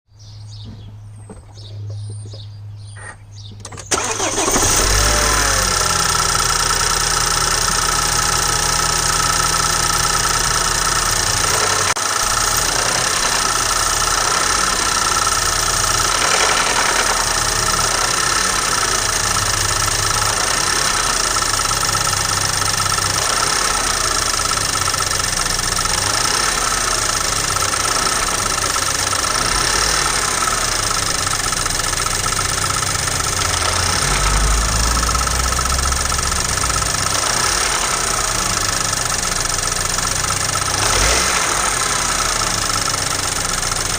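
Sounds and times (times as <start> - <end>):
car engine starting and idling: 0.4 - 43.9.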